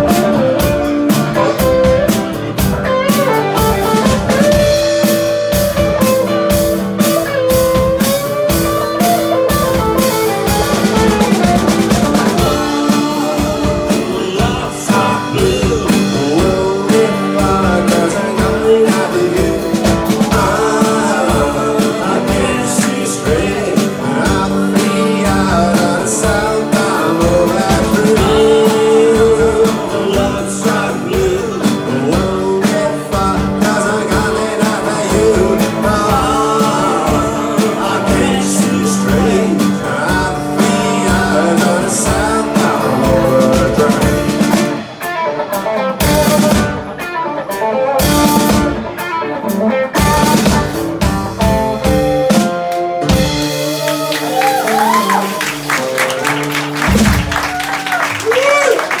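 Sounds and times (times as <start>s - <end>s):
strummed acoustic guitar: 0.0s - 53.8s
drum kit: 0.0s - 59.0s
electric guitar: 0.0s - 59.0s.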